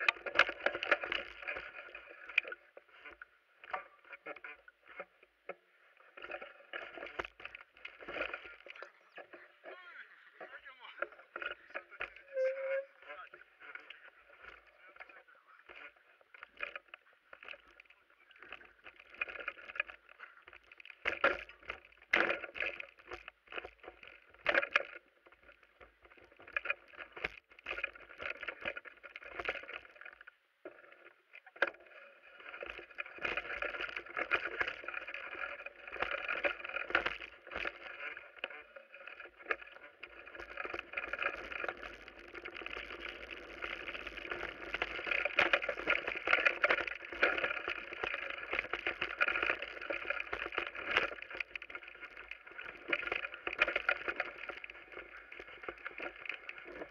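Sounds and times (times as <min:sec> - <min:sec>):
bike tyres on dirt: 0:00.0 - 0:30.4, 0:31.2 - 0:56.9
bike frame rattling: 0:00.0 - 0:56.9.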